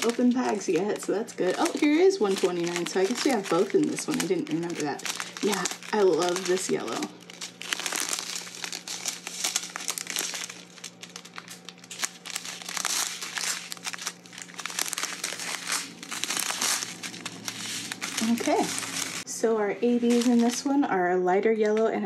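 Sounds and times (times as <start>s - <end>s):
plastic bags crinkling: 0.0s - 19.2s, 20.0s - 20.8s.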